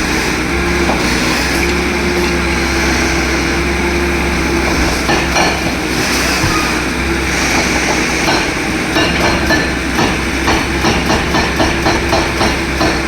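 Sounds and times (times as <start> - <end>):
heavy machinery engine running: 0.0 - 13.0.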